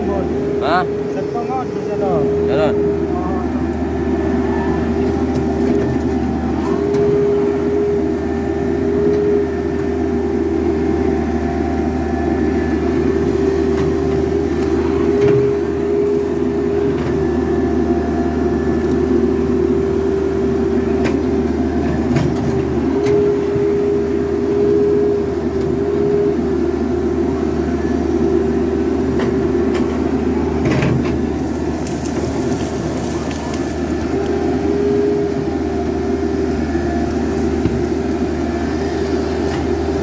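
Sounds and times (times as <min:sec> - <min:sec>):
excavator diesel engine running: 0:00.0 - 0:40.0
hydraulic whine: 0:00.0 - 0:40.0.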